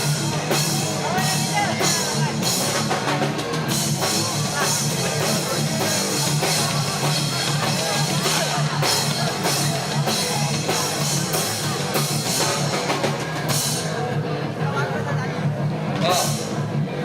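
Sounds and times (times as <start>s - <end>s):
hardcore band playing: 0.0s - 17.0s.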